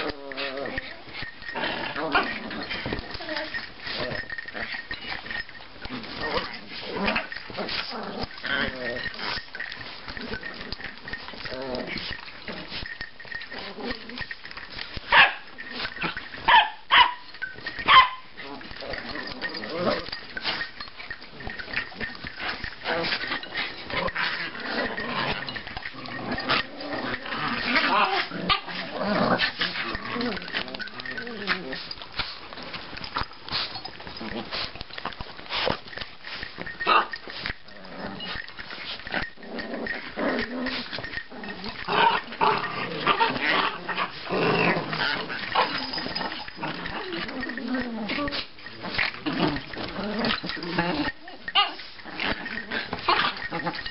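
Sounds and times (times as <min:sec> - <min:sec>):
small dogs vocalizing: 0:00.0 - 0:53.9.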